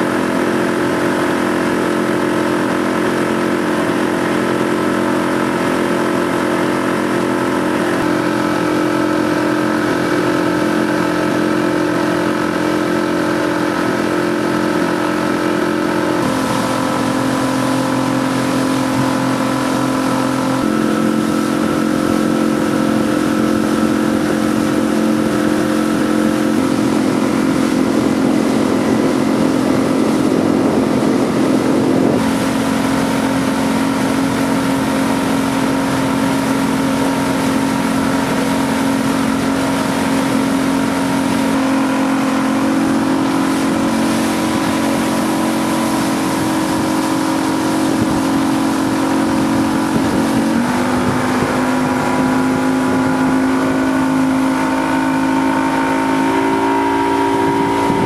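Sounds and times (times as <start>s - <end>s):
outboard motorboat engine: 0.0s - 58.0s
rush of water from wake: 0.0s - 58.0s.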